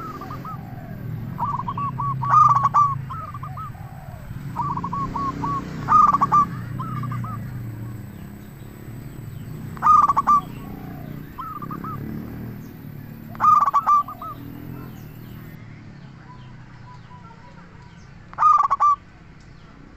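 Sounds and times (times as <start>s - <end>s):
dove cooing: 0.0s - 15.6s, 18.3s - 19.0s.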